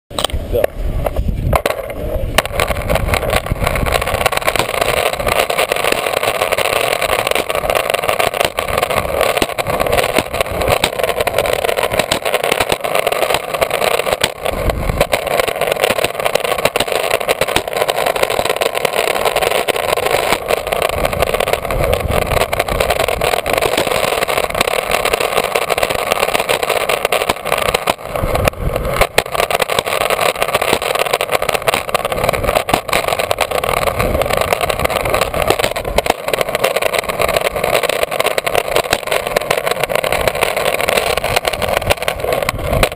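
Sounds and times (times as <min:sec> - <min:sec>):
skateboard wheels rolling on concrete: 0:00.1 - 0:42.9
wind buffeting microphone: 0:00.1 - 0:42.9.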